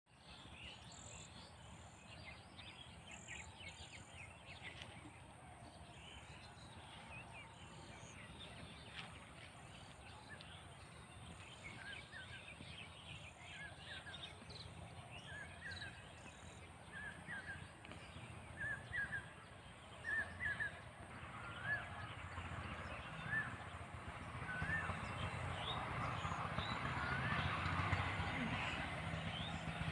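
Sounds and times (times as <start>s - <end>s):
birds chirping: 0.1s - 29.9s.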